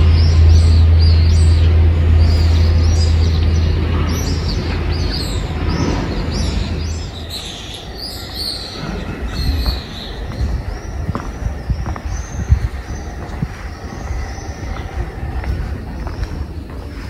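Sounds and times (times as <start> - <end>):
steady low hum: 0.0 - 17.0
swifts screaming calls: 0.0 - 17.0.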